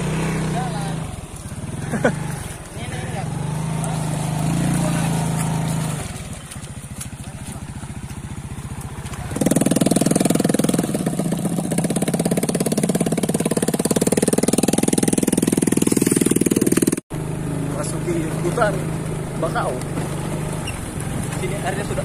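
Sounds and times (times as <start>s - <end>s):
small motorcycle engine puttering: 0.0s - 17.0s, 18.3s - 22.0s.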